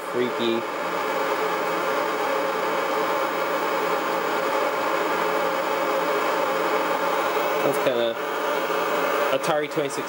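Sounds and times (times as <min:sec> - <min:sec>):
dense electronic buzzing hiss: 0:00.1 - 0:10.0.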